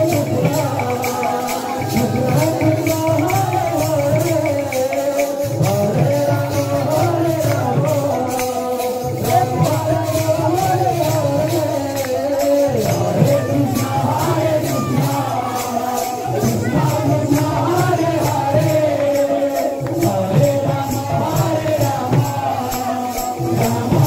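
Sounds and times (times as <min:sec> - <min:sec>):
jingling hand cymbals: 0:00.0 - 0:24.0.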